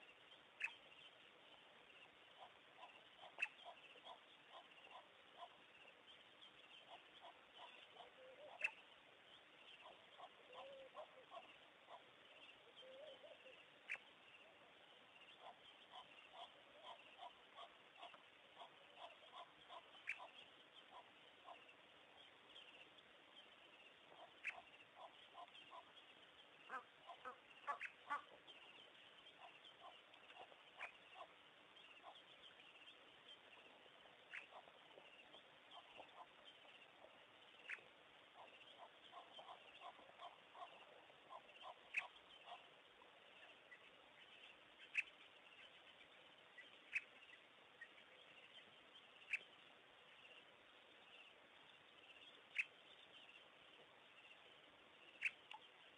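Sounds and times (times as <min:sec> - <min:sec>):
bird calls: 0:00.0 - 0:55.9
steady low hiss: 0:00.0 - 0:55.9.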